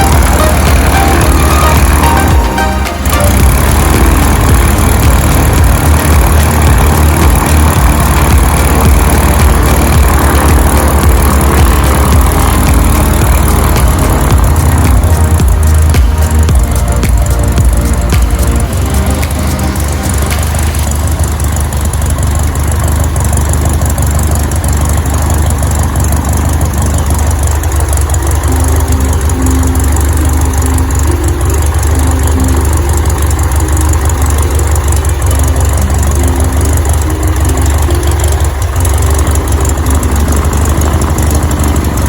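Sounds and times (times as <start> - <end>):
light aircraft engine and propeller: 0.0 - 42.0
short steady tones: 0.0 - 42.0.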